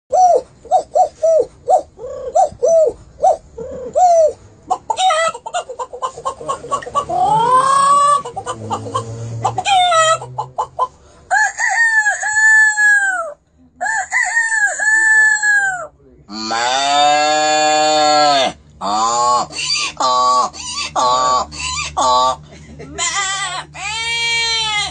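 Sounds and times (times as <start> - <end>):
man imitating chicken calls: 0.1 - 22.4.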